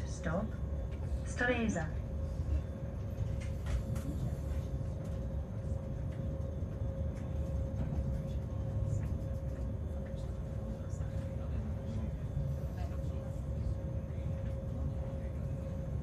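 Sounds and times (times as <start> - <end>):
constant hum: 0.0 - 16.0
train carriage rumbling on track: 0.0 - 16.0.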